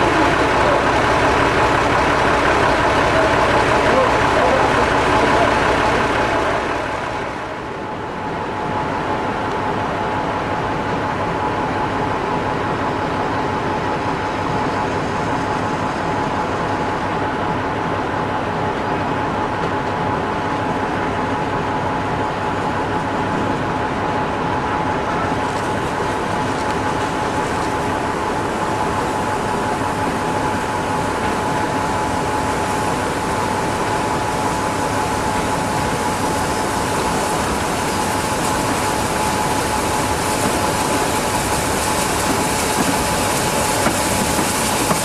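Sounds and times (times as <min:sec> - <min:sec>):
constant whine: 0:00.0 - 0:45.0
train running: 0:00.0 - 0:45.0.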